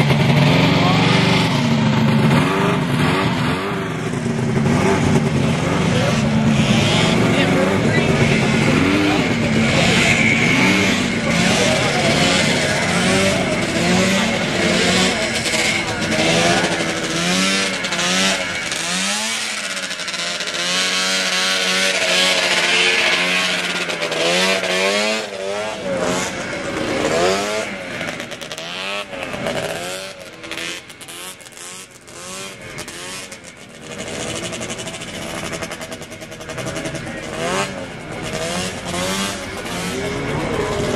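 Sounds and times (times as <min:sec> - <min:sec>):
snowmobile engines revving: 0:00.0 - 0:40.9.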